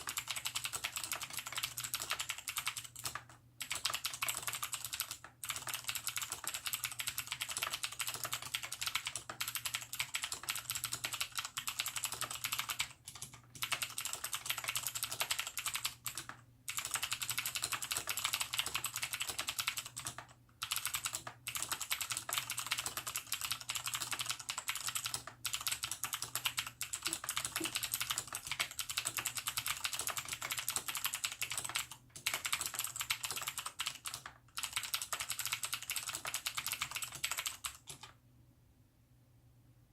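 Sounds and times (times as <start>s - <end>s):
fast typing on mechanical keyboard: 0.0s - 38.1s.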